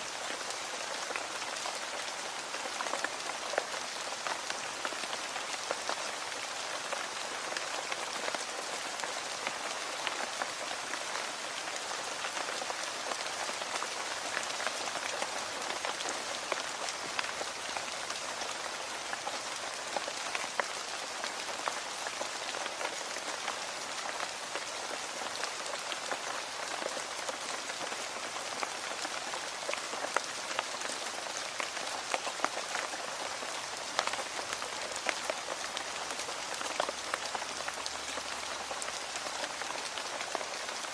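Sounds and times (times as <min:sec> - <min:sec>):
rain on hard surface: 0:00.0 - 0:40.9.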